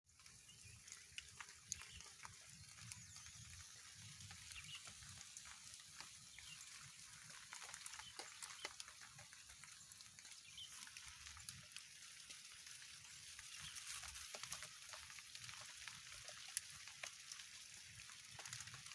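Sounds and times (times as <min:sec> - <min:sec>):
bird roasting over fire sizzling: 0:00.1 - 0:18.9.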